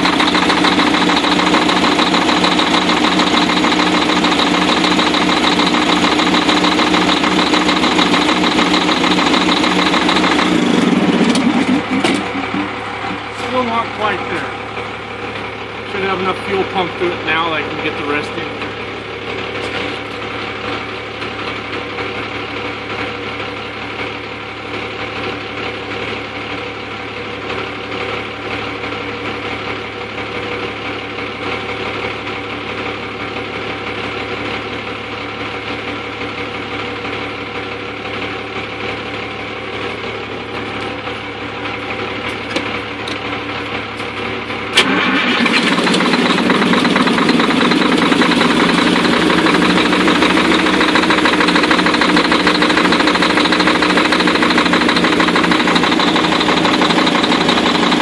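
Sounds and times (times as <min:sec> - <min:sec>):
rough diesel truck engine: 0:00.0 - 0:58.0.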